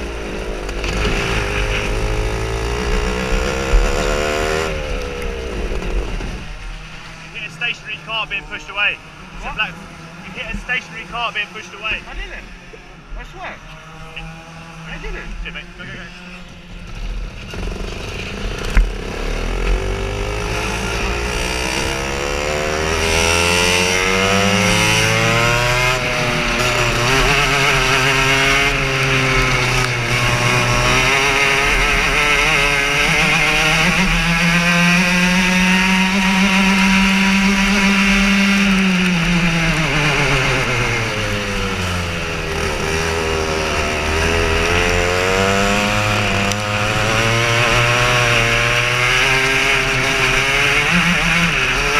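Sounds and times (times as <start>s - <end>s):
kart engine accelerating: 0.0s - 51.9s.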